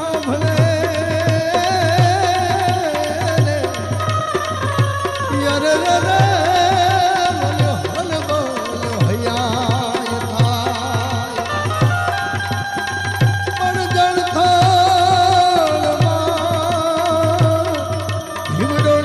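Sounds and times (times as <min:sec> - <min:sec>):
tabla beat: 0:00.0 - 0:19.0.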